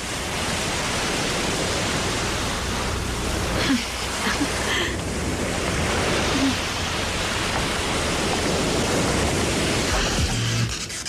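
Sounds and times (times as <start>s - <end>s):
sea wind: 0.0s - 11.0s
surf: 0.0s - 11.0s.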